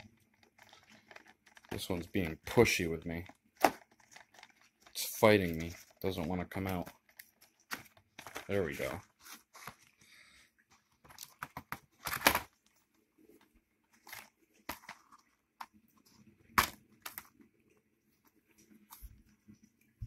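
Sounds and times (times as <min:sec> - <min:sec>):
cardboard and plastic cases rustling: 0:00.0 - 0:17.5.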